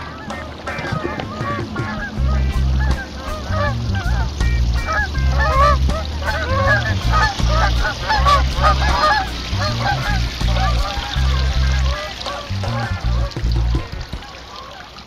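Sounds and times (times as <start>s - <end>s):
geese honking: 0.0s - 15.0s
low uneven rumble: 0.0s - 15.0s.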